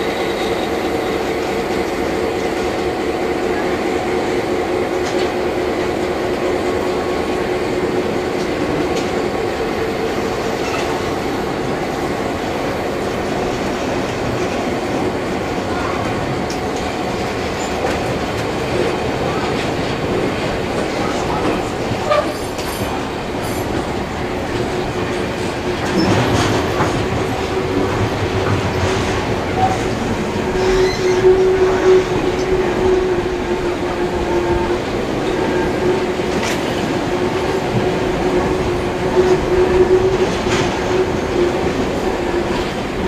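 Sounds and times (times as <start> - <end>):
railway carriage wheels rumbling: 0.0 - 43.0.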